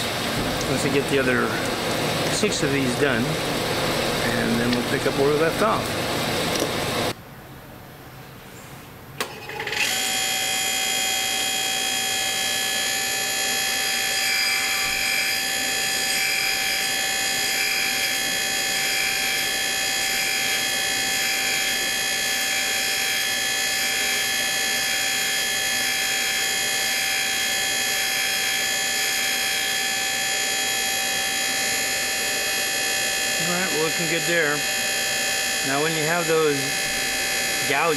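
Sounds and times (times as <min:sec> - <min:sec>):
grinding machine whine: 0:00.0 - 0:07.2, 0:09.2 - 0:37.9.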